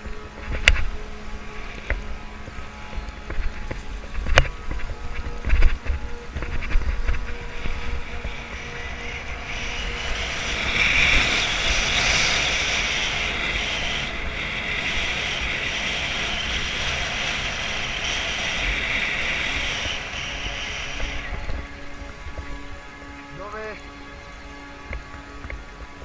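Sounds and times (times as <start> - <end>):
skis scraping across snow: 0.0 - 26.0.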